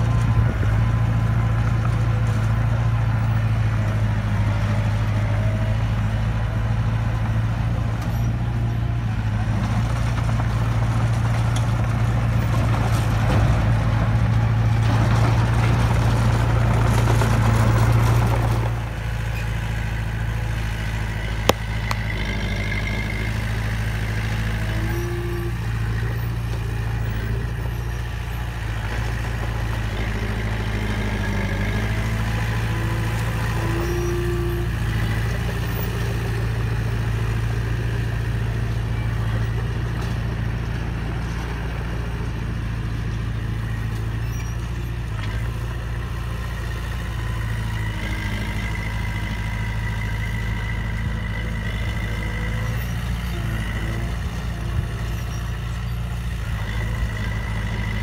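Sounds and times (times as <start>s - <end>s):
bulldozer diesel engine running: 0.0s - 58.0s
rough working noise: 0.0s - 58.0s.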